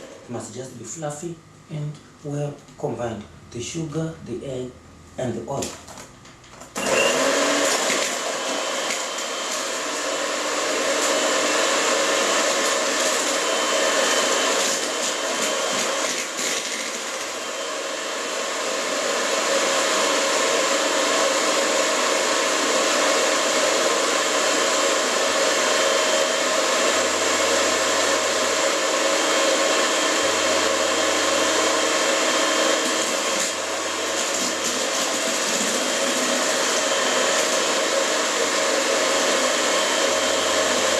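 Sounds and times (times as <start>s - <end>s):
electric mixer running: 6.6s - 40.9s.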